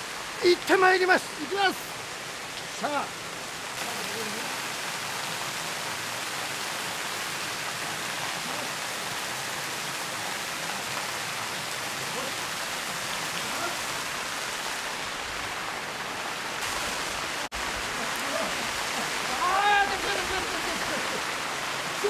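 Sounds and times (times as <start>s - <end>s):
waterfall pouring into pool: 0.0s - 22.0s.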